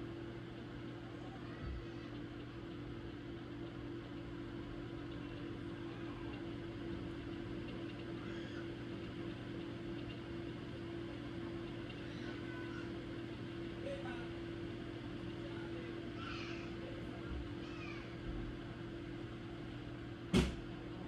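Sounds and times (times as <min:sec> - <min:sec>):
small motor humming: 0:00.0 - 0:20.6.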